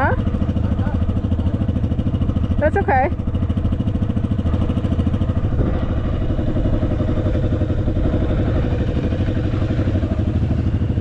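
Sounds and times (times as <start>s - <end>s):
dirt bike engine puttering: 0.0s - 11.0s.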